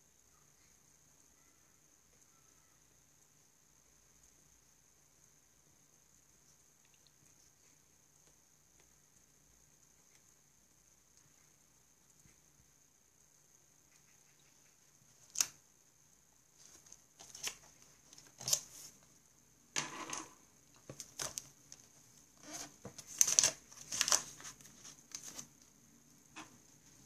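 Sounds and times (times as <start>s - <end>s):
faint high whine: 0.0s - 23.0s.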